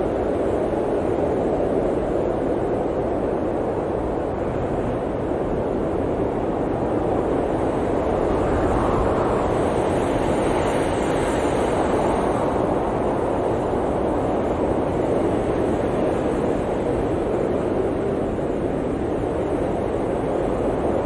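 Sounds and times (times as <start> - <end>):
blizzard wind rushing: 0.0 - 21.0.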